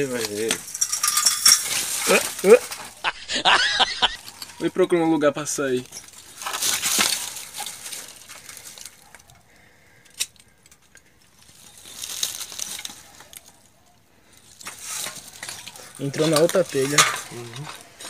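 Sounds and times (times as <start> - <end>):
rubble crunching and scraping: 0.0 - 18.0.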